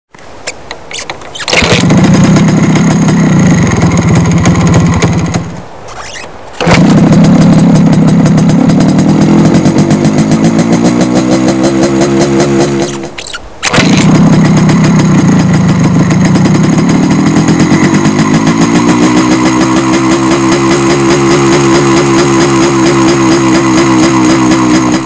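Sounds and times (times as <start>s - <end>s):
motorcycle engine kick-started: 0.9s - 25.0s.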